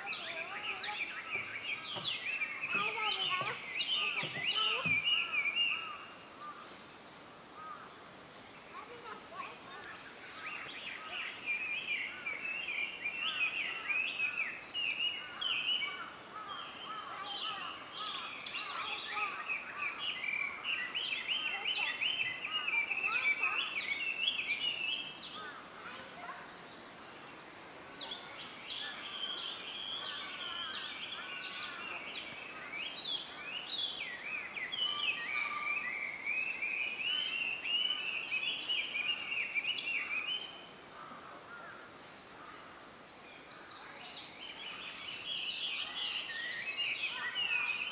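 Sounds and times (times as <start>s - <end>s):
birds chirping: 0.0s - 47.9s
long wavering birdsong: 0.0s - 47.9s.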